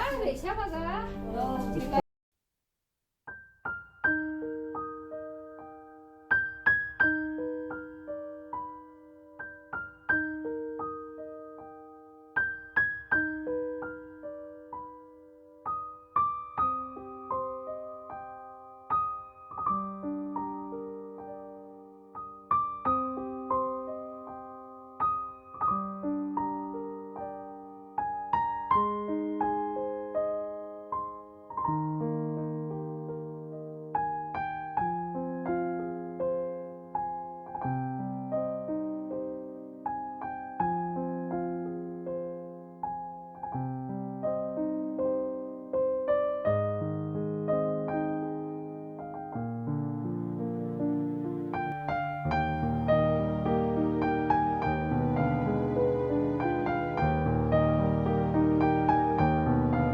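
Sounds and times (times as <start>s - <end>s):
gentle solo piano music: 3.3s - 59.9s.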